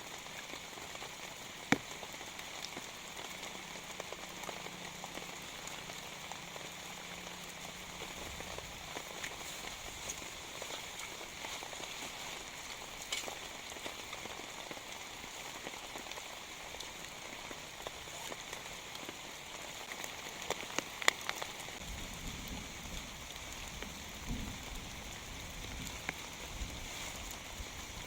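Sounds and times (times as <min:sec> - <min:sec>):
raindrops ticking: 0:00.0 - 0:28.0
steady rain hiss: 0:00.0 - 0:28.0.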